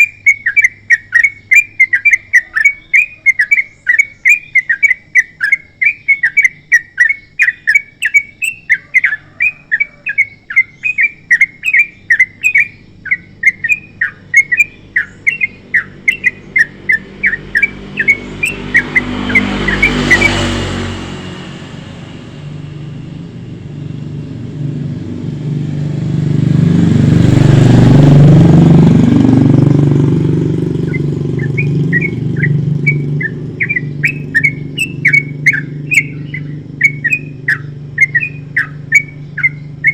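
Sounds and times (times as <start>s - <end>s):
bird singing chirped notes: 0.0s - 21.7s, 29.1s - 39.9s
vehicle passing: 0.0s - 39.9s.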